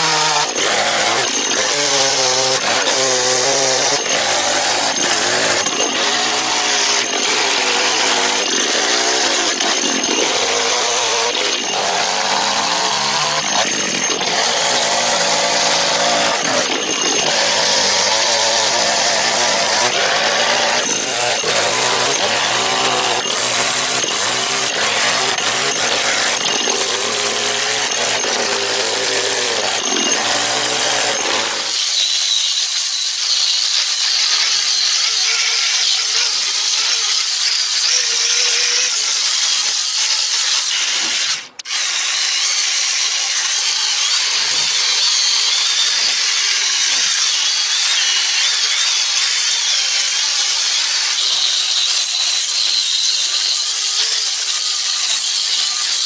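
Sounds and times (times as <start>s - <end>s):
angle grinder sanding wood: 0.0s - 56.0s
chainsaw carving wood: 0.0s - 56.0s.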